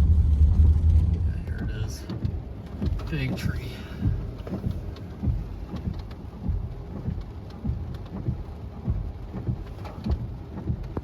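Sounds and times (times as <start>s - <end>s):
low thuds: 0.0s - 11.0s
rain on a car roof: 0.0s - 11.0s.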